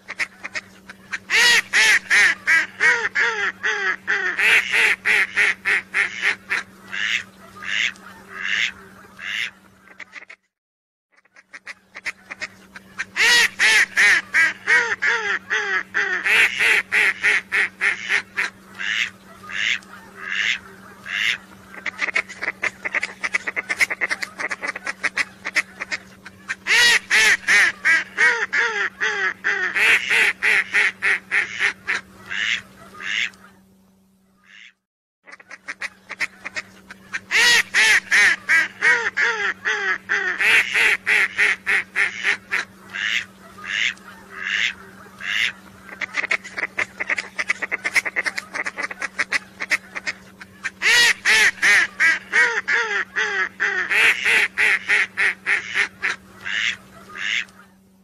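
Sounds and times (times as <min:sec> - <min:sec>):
steady low hum: 0:00.0 - 0:10.4, 0:11.1 - 0:58.0
whistling duck calls: 0:00.1 - 0:10.4, 0:11.2 - 0:33.5, 0:35.3 - 0:57.7.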